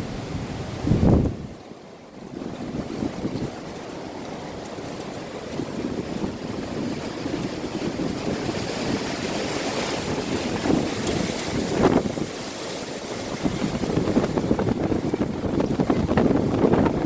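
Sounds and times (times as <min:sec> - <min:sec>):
strong gusting wind: 0:00.0 - 0:17.0.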